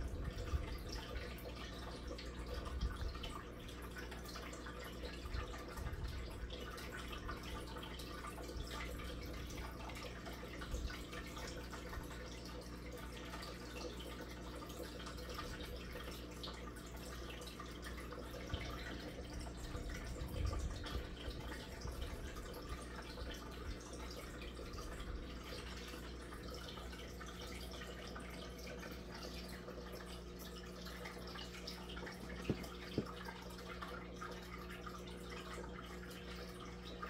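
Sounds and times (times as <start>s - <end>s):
aquarium water bubbling: 0.0s - 37.0s
constant low hum: 0.0s - 37.0s.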